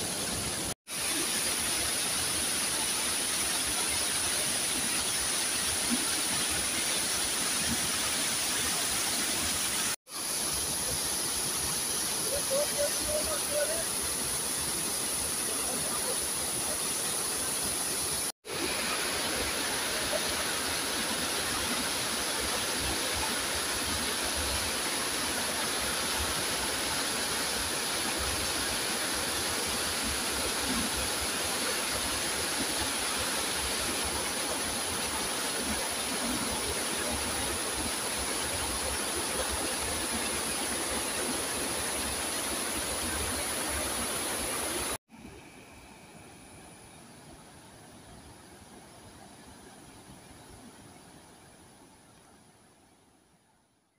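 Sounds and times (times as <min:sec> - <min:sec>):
floodwater rushing over weir: 0:00.0 - 0:50.7.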